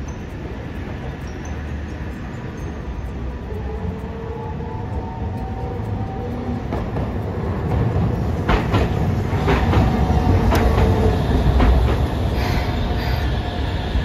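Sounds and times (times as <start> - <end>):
tram running noise: 0.0 - 14.0
wheels clacking on rails: 0.0 - 14.0.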